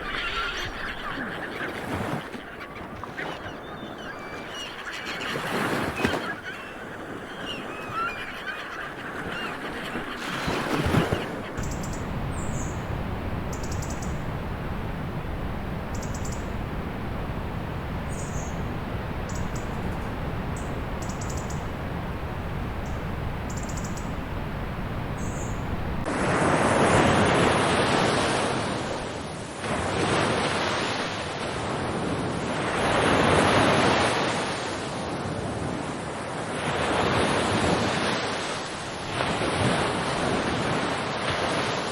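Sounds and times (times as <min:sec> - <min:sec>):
low rumble of surf: 0:00.0 - 0:41.9
waves surging and washing out: 0:00.0 - 0:41.9.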